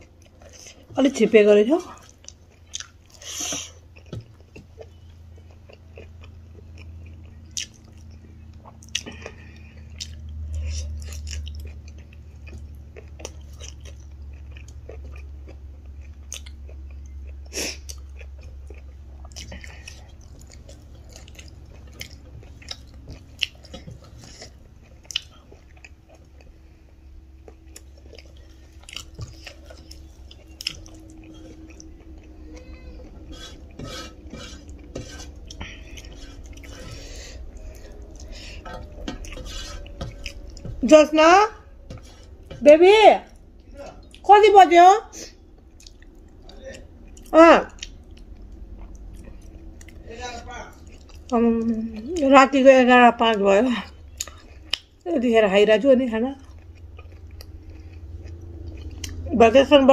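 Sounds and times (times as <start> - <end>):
chewing and biting food: 0.0 - 1.1, 1.8 - 44.3, 45.2 - 52.3, 53.8 - 55.1, 56.2 - 59.9
low steady hum: 0.0 - 59.9.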